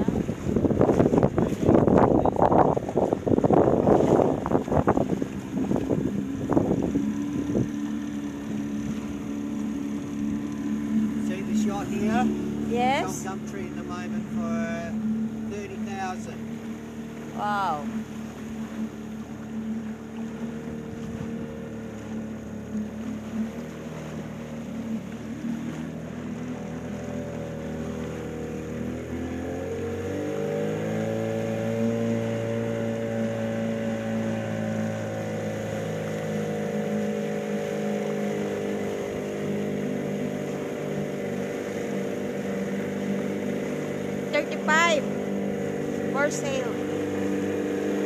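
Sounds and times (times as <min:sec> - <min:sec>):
motorboat engine running: 0:00.0 - 0:48.0.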